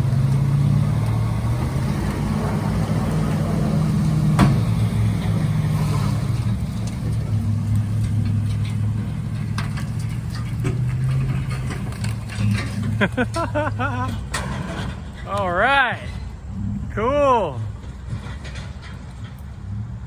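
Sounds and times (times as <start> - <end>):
truck engine running under load: 0.0 - 20.0.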